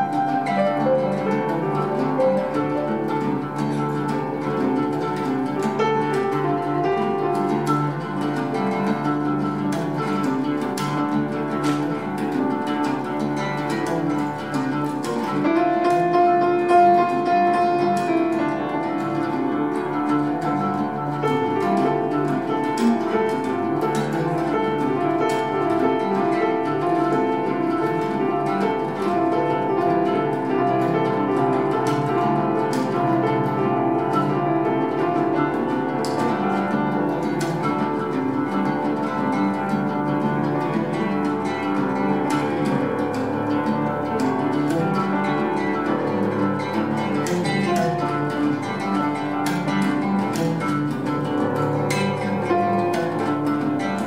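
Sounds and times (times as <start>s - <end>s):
oud plucking quick notes: 0.0s - 54.0s
piano playing: 0.0s - 54.0s.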